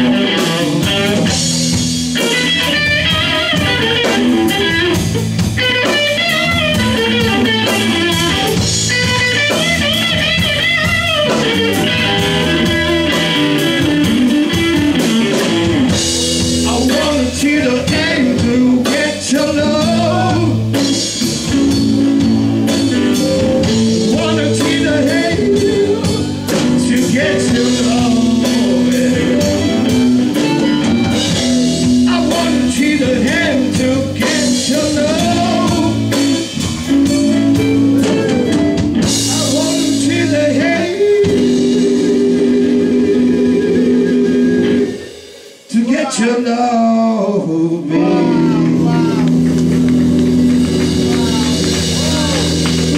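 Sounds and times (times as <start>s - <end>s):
drum kit: 0.0s - 52.9s
electric bass: 0.0s - 52.9s
electric guitar: 0.0s - 52.9s.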